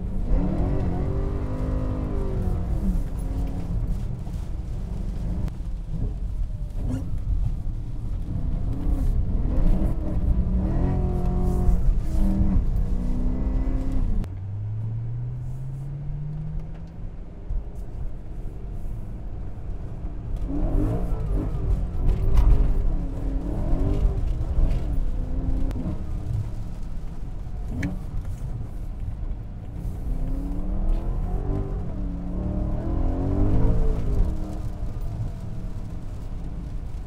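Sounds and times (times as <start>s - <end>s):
car engine revving: 0.0s - 7.2s, 8.1s - 16.9s, 20.2s - 37.0s.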